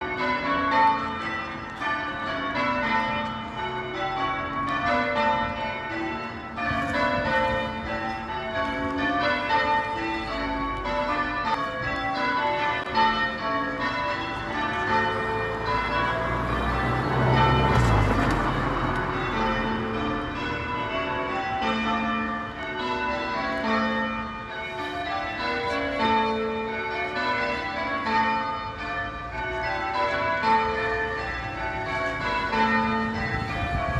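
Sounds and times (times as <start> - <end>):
church bells ringing: 0.0 - 33.9.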